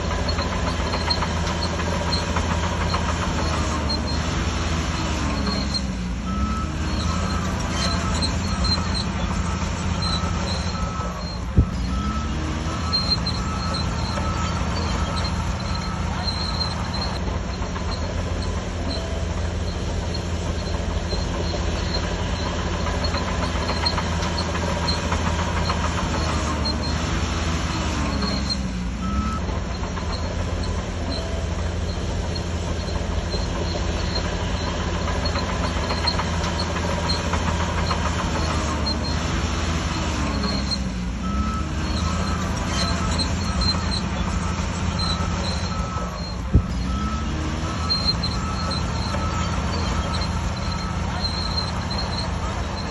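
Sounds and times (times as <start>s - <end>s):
bulldozer diesel engine running: 0.0s - 52.9s
steel tracks squealing and clanking: 0.0s - 52.9s.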